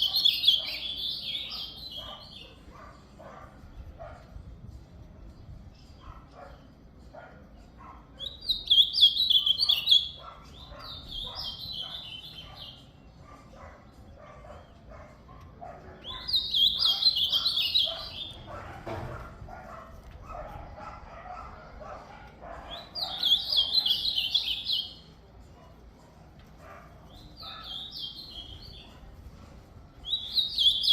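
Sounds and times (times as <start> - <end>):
bird singing warbled phrases: 0.0 - 4.4, 5.6 - 18.8, 20.9 - 25.8, 26.6 - 30.9.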